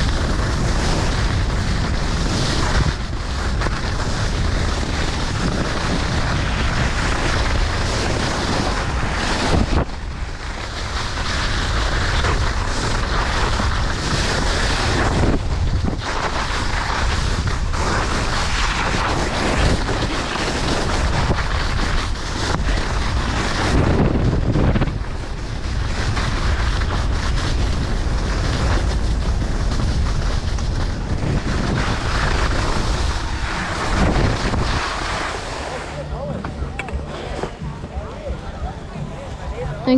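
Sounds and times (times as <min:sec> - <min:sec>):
skis scraping on snow: 0:00.0 - 0:39.9
wind rushing over microphone: 0:00.0 - 0:39.9.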